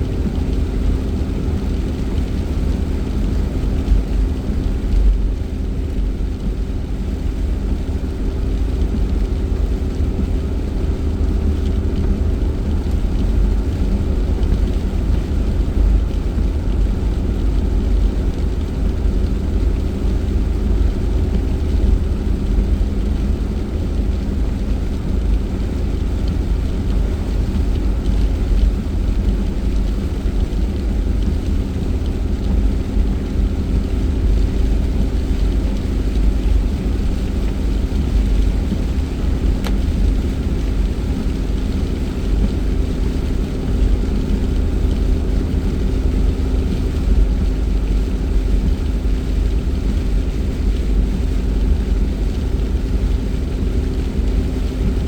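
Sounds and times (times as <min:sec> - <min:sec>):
car engine hum: 0:00.0 - 0:55.0
road rumble: 0:00.0 - 0:55.0.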